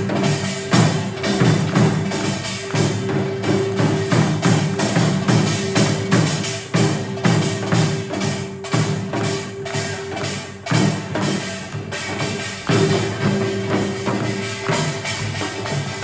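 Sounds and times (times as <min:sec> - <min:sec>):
sharp percussion strikes: 0:00.0 - 0:16.0.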